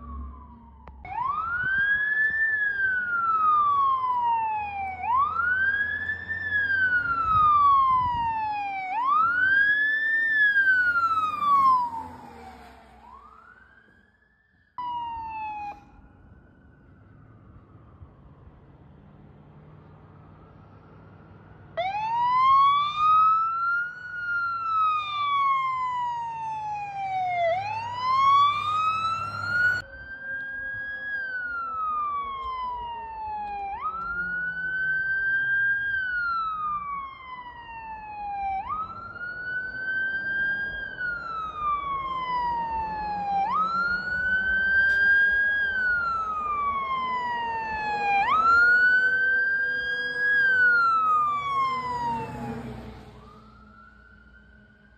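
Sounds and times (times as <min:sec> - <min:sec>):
fire truck siren wailing: 0:00.0 - 0:54.9.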